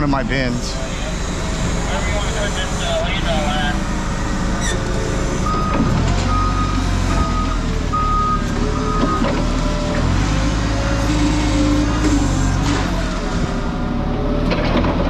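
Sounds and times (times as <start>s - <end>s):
engine low rumble: 0.0s - 15.0s
vehicle reversing alarm beeps: 0.6s - 13.6s.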